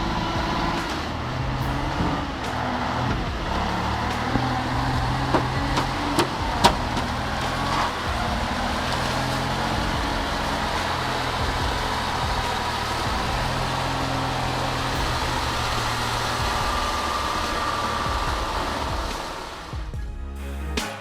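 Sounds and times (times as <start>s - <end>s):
heavy vehicle engine running: 0.0s - 20.0s
sharp knocks: 0.0s - 20.2s.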